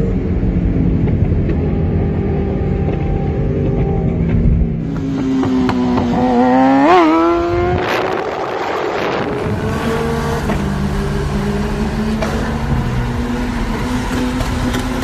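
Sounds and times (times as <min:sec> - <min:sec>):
motorcycle engine revving: 0:00.0 - 0:15.0
exhaust rush of passing motorcycle: 0:01.6 - 0:15.0.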